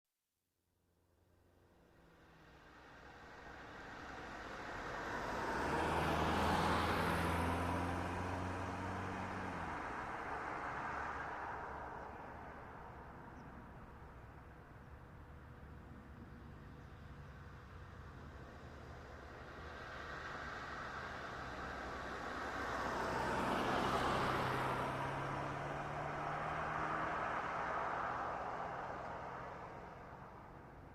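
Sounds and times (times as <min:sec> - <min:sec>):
car driving past: 0:02.0 - 0:13.6, 0:16.4 - 0:30.9.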